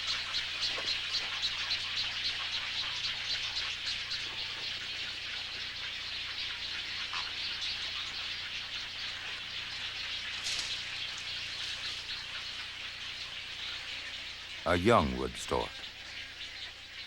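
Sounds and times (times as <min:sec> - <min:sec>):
many birds chattering: 0:00.0 - 0:17.0.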